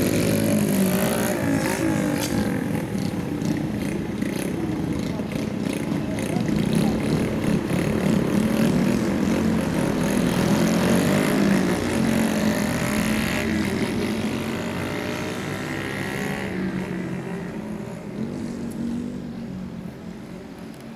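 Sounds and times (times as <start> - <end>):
minibike engines accelerating: 0.0 - 20.6.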